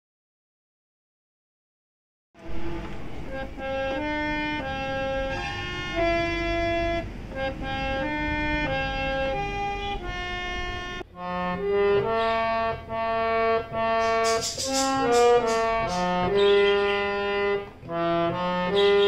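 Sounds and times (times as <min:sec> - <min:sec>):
harmonium melody: 0:02.4 - 0:19.0.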